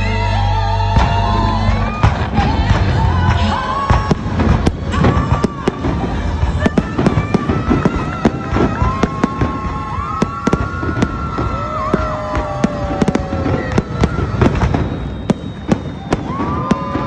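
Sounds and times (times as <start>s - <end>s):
fireworks bangs and crackling: 0.9s - 17.0s.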